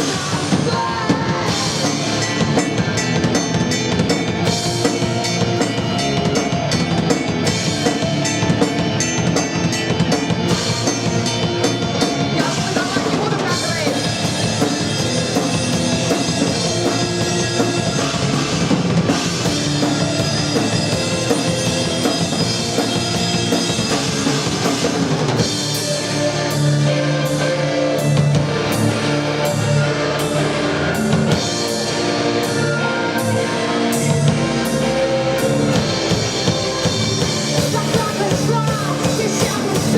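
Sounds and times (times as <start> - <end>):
drum kit: 0.0 - 39.9
rock band playing: 0.0 - 39.9.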